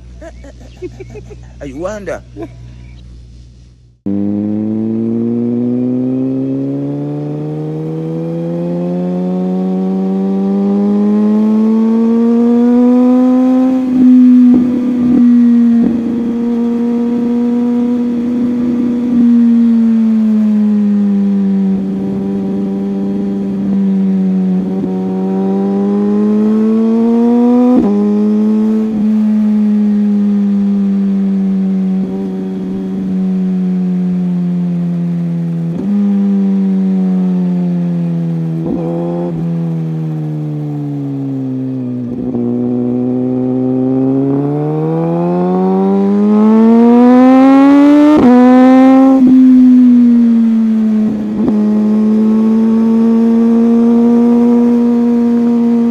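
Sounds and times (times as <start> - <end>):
motorcycle engine revving: 4.0 - 55.9.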